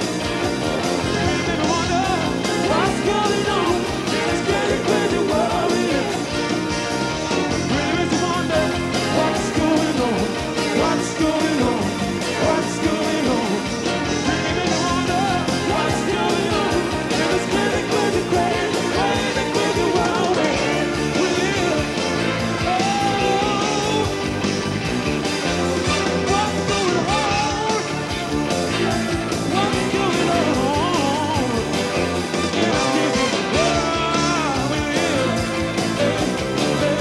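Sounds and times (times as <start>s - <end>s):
rock band playing live: 0.0s - 37.0s
person singing: 1.0s - 6.5s, 7.4s - 24.2s, 26.1s - 28.0s, 29.5s - 31.8s, 32.6s - 37.0s.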